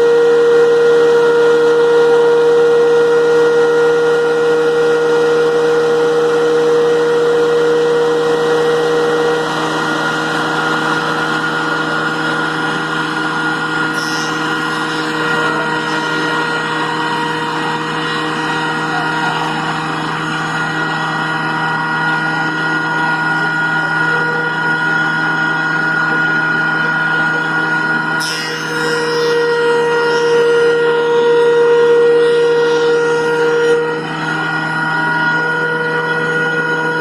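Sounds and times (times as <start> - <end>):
thickness planer running: 0.0 - 37.0
vacuum running: 0.0 - 37.0.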